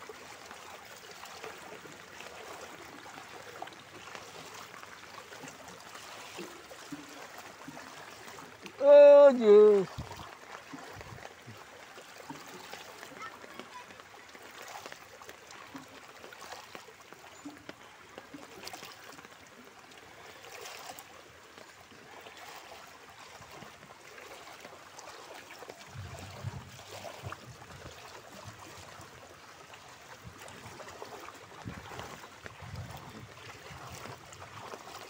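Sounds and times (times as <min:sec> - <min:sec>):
floodwater rushing and splashing: 0:00.0 - 0:35.0.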